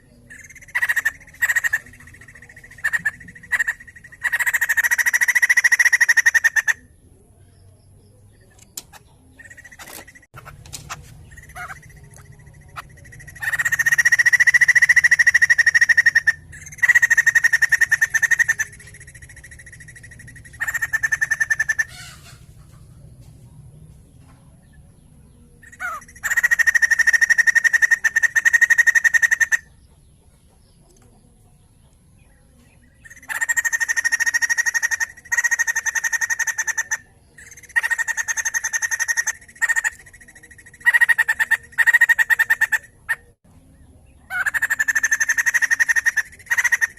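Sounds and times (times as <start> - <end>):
bird chattering calls: 0.0 - 6.9, 8.5 - 22.9, 25.6 - 29.8, 33.0 - 43.4, 44.3 - 46.9.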